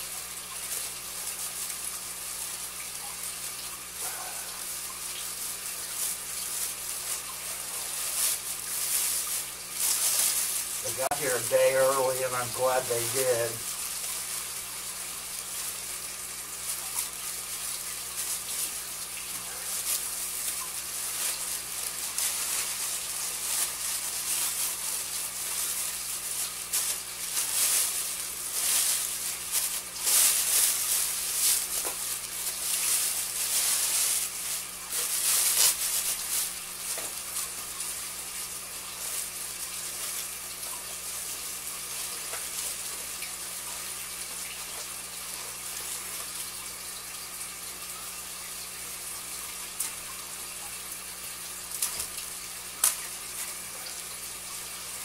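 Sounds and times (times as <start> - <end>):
plastic bag rustling and crinkling: 0.0 - 47.2, 49.6 - 55.0.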